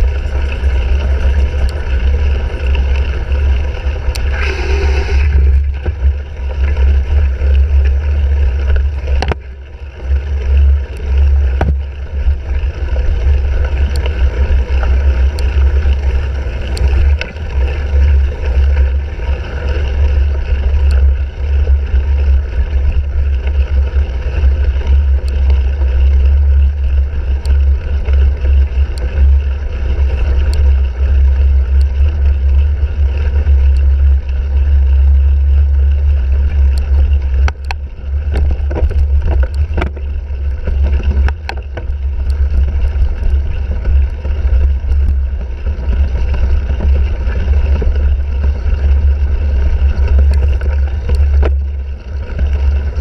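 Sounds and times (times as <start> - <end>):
bike clicks and rattles: 0.0 - 53.0.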